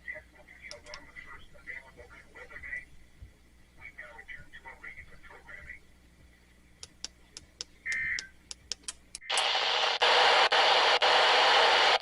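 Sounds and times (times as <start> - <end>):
radio static hiss: 0.0 - 6.5, 7.2 - 8.4, 9.2 - 12.0.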